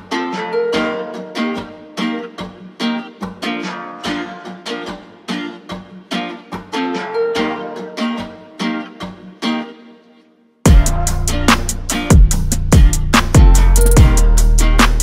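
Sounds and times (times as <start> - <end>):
strummed plucked strings: 0.0 - 15.0.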